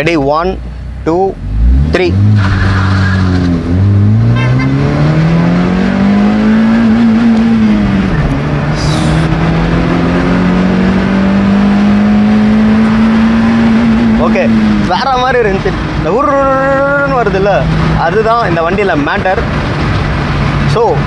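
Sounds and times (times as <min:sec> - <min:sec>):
car engine revving hard: 0:01.4 - 0:18.8.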